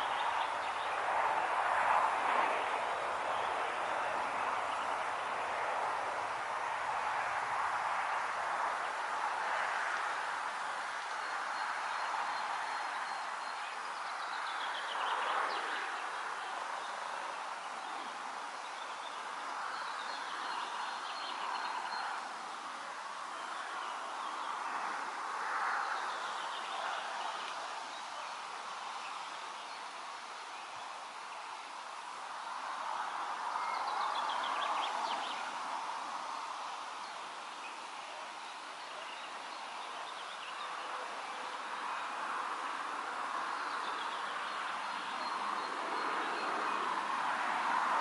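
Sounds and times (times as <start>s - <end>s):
wind rustling through foliage: 0.0s - 48.0s.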